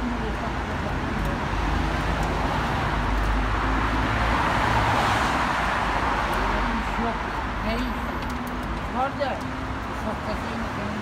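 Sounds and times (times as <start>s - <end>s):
steady traffic rumble: 0.0s - 11.0s.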